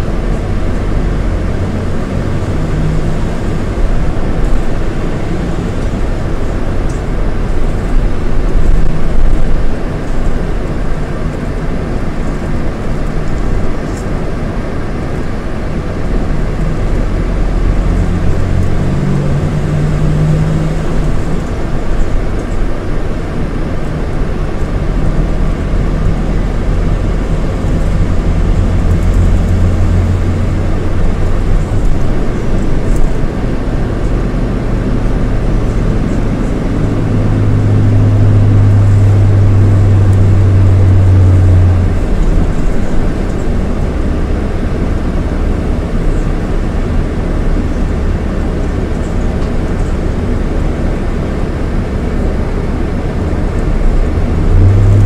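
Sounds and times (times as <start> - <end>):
diesel engine droning: 0.0 - 55.0
road noise: 0.0 - 55.0.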